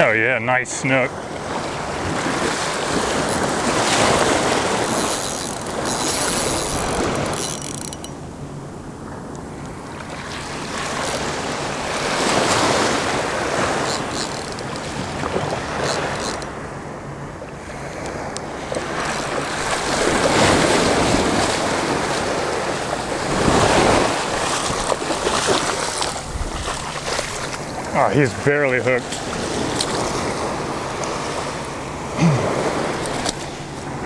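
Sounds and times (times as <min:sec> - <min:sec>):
small waves washing on beach: 0:00.0 - 0:34.0.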